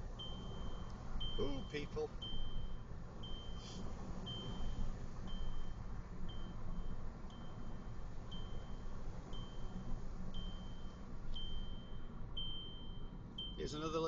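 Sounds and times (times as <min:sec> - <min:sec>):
car driving rumble: 0:00.0 - 0:14.0
car warning chime beeps: 0:00.0 - 0:14.0.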